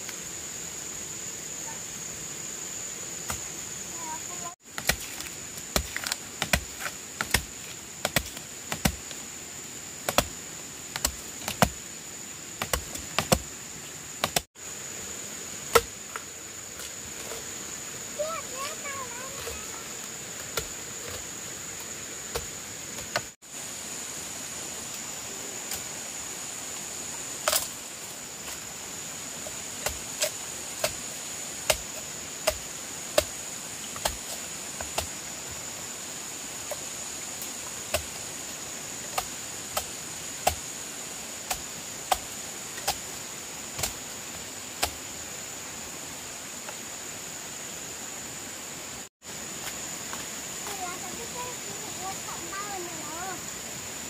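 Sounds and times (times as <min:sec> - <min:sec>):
high-pitched insect drone: 0:00.0 - 0:54.0
outdoor hiss: 0:00.0 - 0:54.0.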